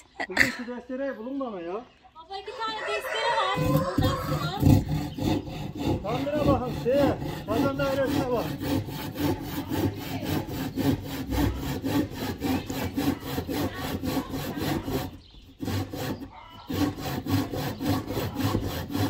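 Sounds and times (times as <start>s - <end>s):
handsaw cutting wood: 3.6s - 19.0s.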